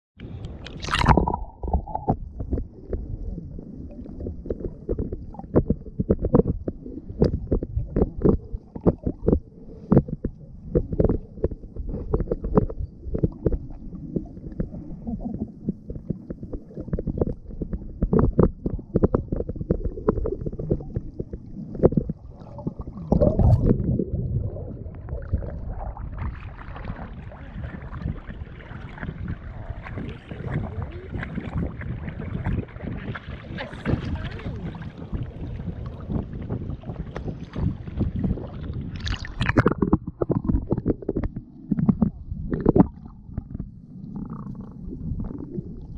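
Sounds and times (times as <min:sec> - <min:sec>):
wind: 0:00.2 - 0:18.8, 0:21.2 - 0:45.8
muffled underwater rumbling: 0:00.2 - 0:45.9
water splashing: 0:00.4 - 0:45.9.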